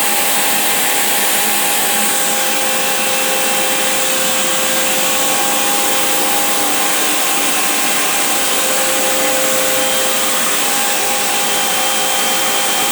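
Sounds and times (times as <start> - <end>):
grinder motor whir: 0.2 - 12.9.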